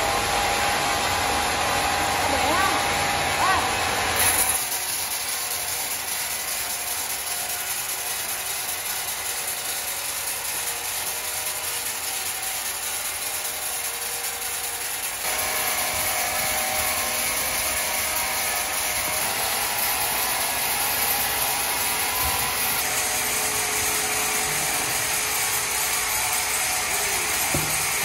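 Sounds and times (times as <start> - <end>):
sawmill machinery rattling: 0.0 - 28.0.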